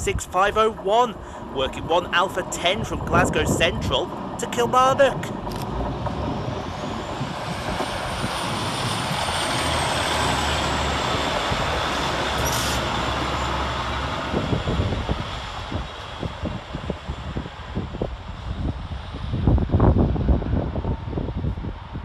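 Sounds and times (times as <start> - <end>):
diesel engine hum: 0.0 - 22.0
wheels rumbling on rail: 0.0 - 22.0.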